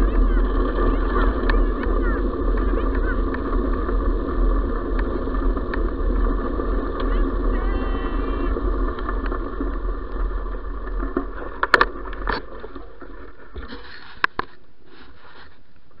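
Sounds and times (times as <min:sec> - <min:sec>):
sharp clicks and rattles: 0:00.0 - 0:14.6
wheels rolling over gravel: 0:00.0 - 0:16.0
wind rumbling on microphone: 0:00.0 - 0:16.0.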